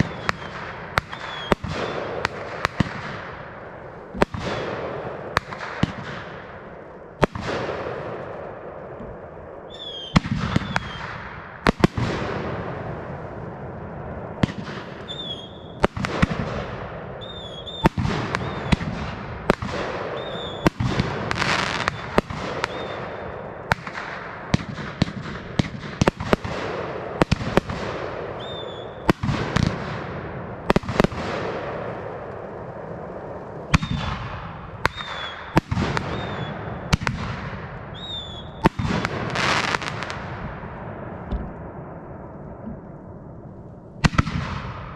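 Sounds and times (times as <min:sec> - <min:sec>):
fireworks crackle and fizz: 0:00.0 - 0:42.9
fireworks bursting: 0:00.0 - 0:44.9.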